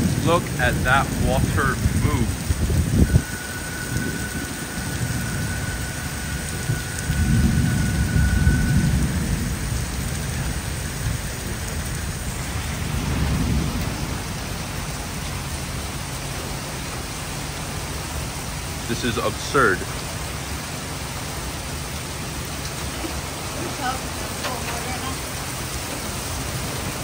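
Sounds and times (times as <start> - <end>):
heavy rain pouring: 0.0 - 27.0
thunder rumbling: 0.0 - 27.0.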